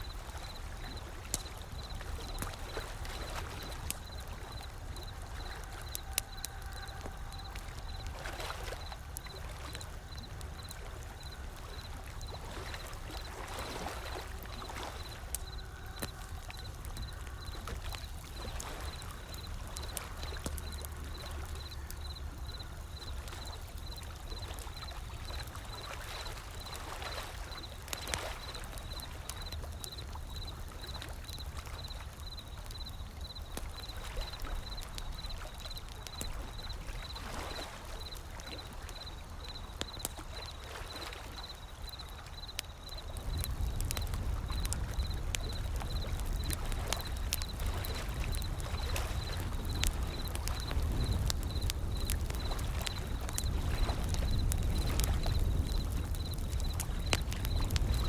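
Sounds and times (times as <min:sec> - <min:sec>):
low rumble of surf: 0:00.0 - 0:58.0
wood fire crackling and popping: 0:00.0 - 0:58.0.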